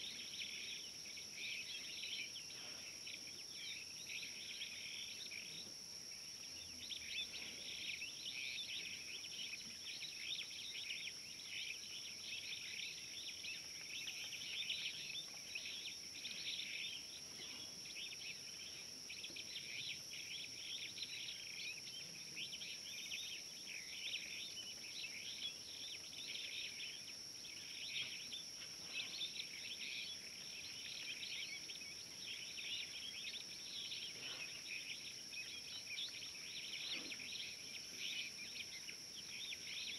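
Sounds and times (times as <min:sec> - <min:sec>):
insects chirping: 0:00.0 - 0:39.9
birds chirping: 0:06.5 - 0:39.9.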